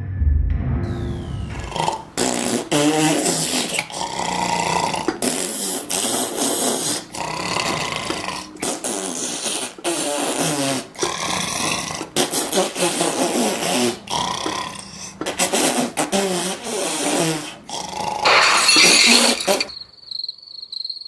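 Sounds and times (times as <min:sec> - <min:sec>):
wheezing cartoon snoring: 0:01.5 - 0:19.7
rattling snort: 0:01.5 - 0:19.8.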